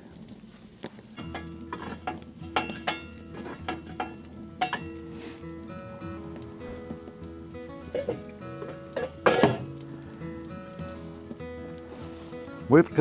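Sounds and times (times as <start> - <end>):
sharp pops and crackles: 0.0 - 13.0
steaks sizzling on a grill: 0.0 - 13.0
quiet background music: 1.1 - 13.0.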